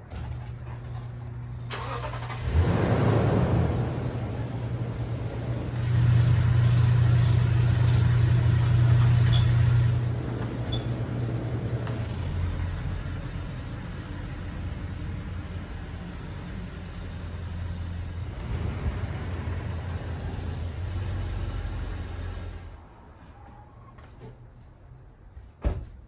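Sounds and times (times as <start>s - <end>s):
pickup engine idling: 0.3s - 22.7s.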